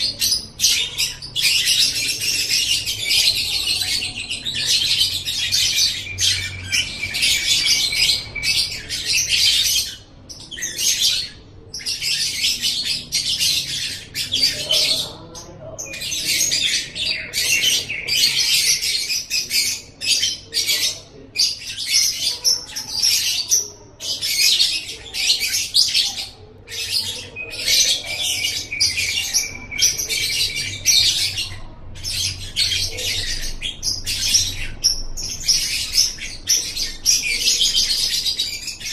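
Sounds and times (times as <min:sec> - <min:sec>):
lovebird chattering song: 0:00.0 - 0:38.9.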